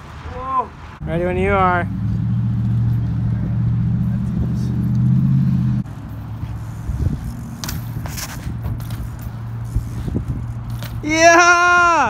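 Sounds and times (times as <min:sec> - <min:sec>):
bike tyres rolling on concrete: 0:01.2 - 0:05.2, 0:05.8 - 0:12.0.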